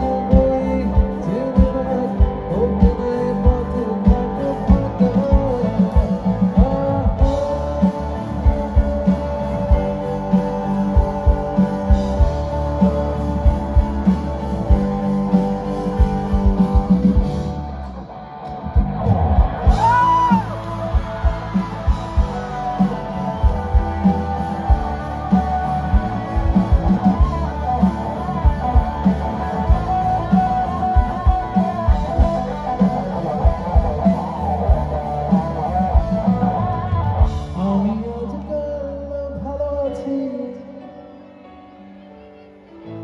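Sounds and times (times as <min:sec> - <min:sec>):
electric guitars: 0:00.0 - 0:43.0
keyboard: 0:00.0 - 0:43.0
drum beat: 0:00.3 - 0:17.6, 0:18.8 - 0:37.6.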